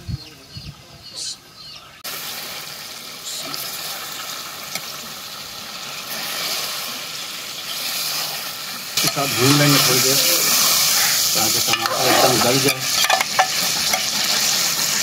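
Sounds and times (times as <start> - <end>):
food sizzling in hot oil: 2.0 - 15.0.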